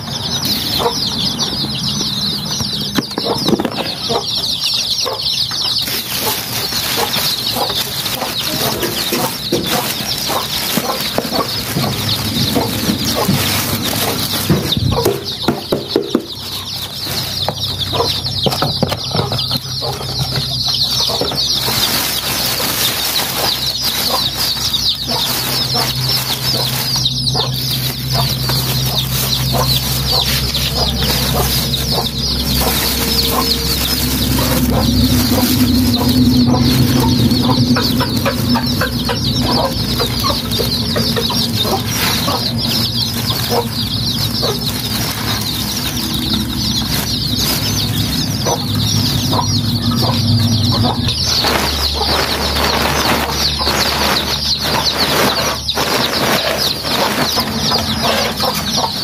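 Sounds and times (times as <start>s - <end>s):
chicks cheeping: 0.0s - 59.0s
plastic bags rustling: 2.8s - 59.0s.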